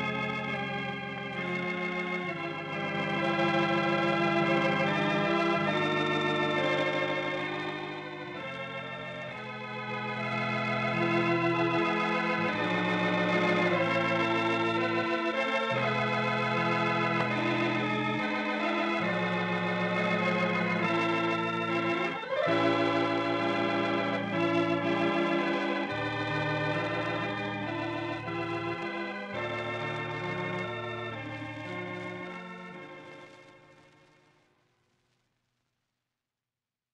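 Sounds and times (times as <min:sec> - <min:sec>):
organ playing slow chords: 0:00.0 - 0:34.1.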